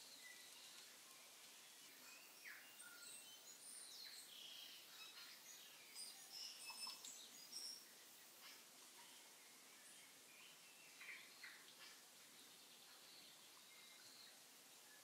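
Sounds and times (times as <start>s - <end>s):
low steady hiss: 0.0s - 15.0s
small birds chirping: 0.0s - 15.0s.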